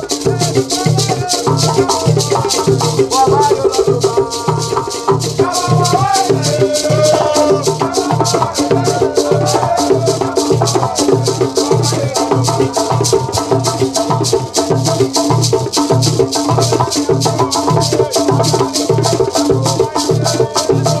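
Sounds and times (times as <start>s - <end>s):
men singing together: 0.0s - 15.2s, 15.8s - 21.0s
gourd shaker strokes: 0.0s - 21.0s.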